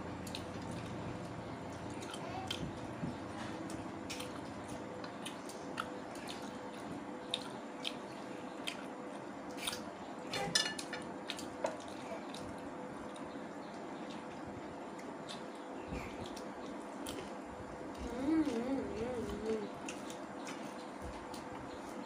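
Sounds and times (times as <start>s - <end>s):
faint steady hum: 0.0s - 22.0s
wet chewing clicks: 0.2s - 9.9s, 11.2s - 22.0s.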